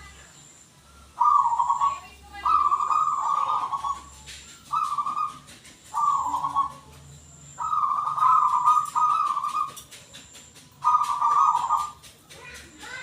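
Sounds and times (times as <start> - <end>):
dove cooing: 1.1 - 13.0.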